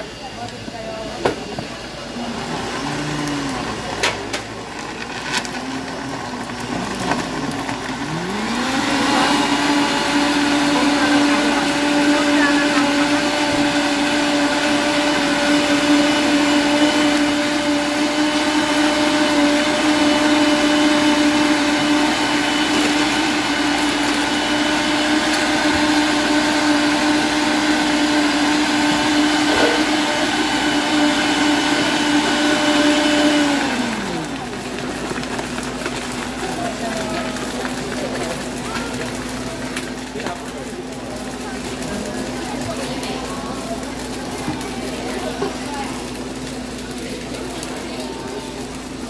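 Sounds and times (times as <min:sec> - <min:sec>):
blender motor whining: 0:00.0 - 0:49.0.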